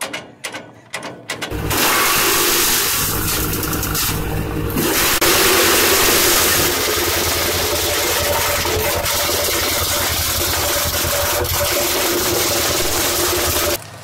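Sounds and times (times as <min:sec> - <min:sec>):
tractor engine running: 0:01.5 - 0:14.0.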